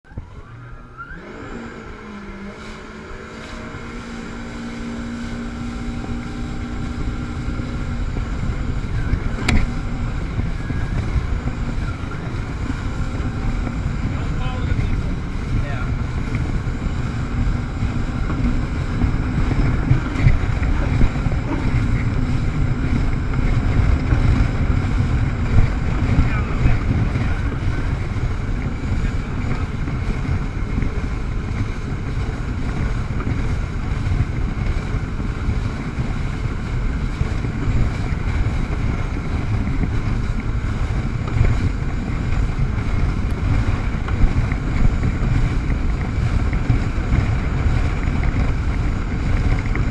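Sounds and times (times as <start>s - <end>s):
jet ski engine: 0.0s - 49.9s
wind buffeting microphone: 0.0s - 49.9s
rushing water: 0.1s - 49.9s.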